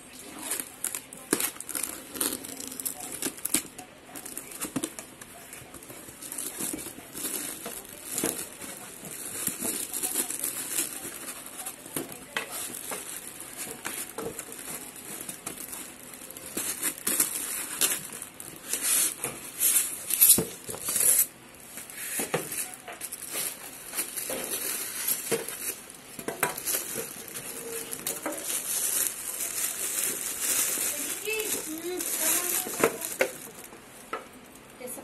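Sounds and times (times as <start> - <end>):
plastic wrap crinkling: 0.1 - 34.1.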